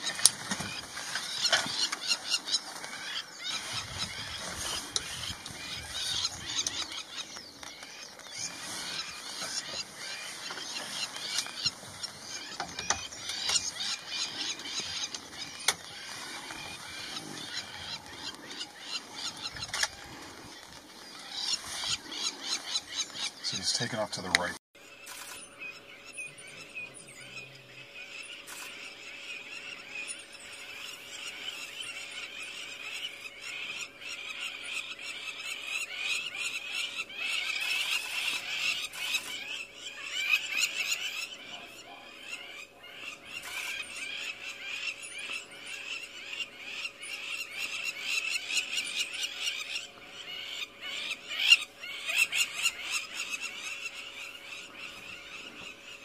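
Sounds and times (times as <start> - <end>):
chorus of frogs trilling: 0.0 - 56.0
constant single-note hum: 0.0 - 56.0.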